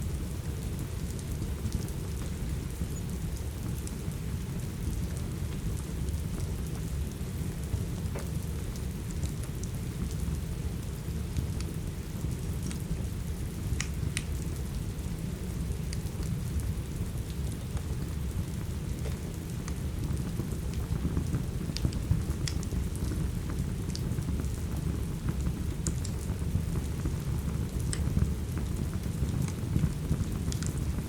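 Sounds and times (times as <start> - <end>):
steady rain rumble: 0.0 - 31.0
wood fire crackling: 0.0 - 31.0.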